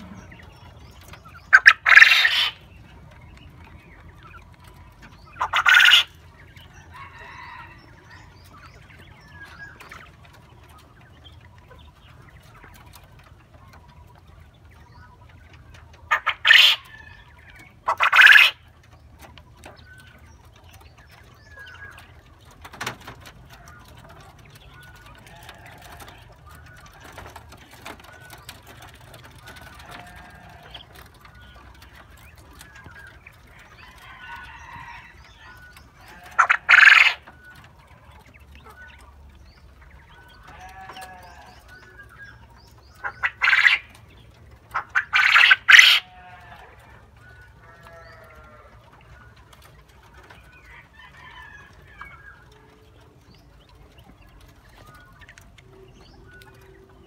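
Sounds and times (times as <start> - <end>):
quail crowing: 0.0 - 57.0
soft chirps of flock: 0.0 - 57.0.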